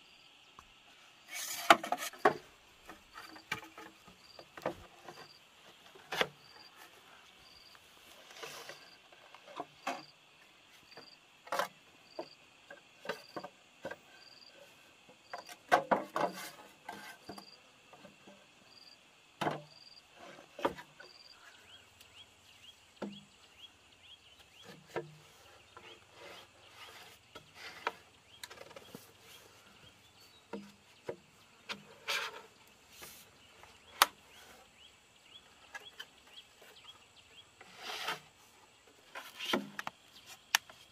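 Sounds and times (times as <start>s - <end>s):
insect high chirp: 0.0s - 0.5s, 3.1s - 15.7s, 16.5s - 40.9s.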